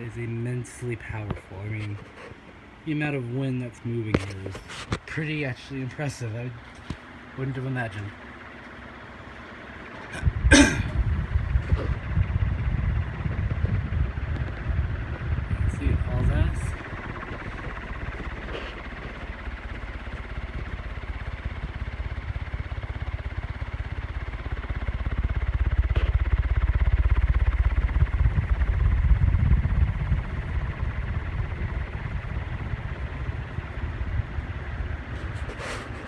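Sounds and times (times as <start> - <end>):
faint motor whine: 0.0 - 36.0
fan air buffeting microphone: 0.0 - 36.0.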